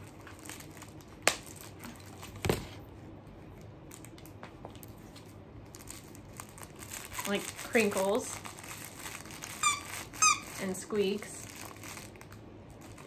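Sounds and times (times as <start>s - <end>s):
crinkle toy rustling: 0.0s - 13.0s.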